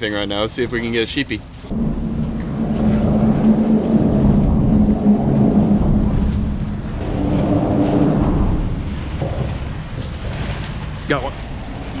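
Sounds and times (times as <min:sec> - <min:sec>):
wind buffeting microphone: 0:01.6 - 0:12.0.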